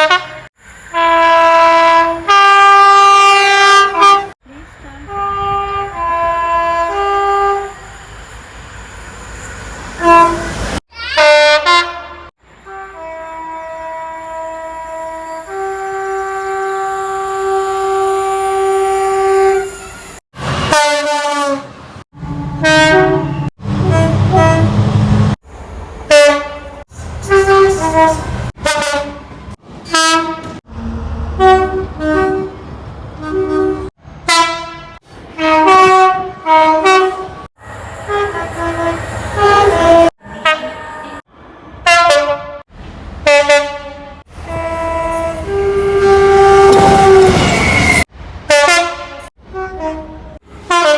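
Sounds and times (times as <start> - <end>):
locomotive two-tone horns: 0.0 - 8.0, 10.0 - 25.3, 26.0 - 50.9
low train rumble: 0.0 - 50.9.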